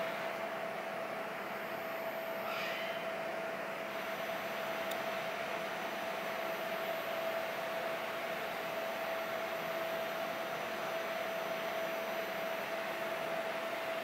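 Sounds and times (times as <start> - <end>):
motor or fan whine: 0.0 - 14.0.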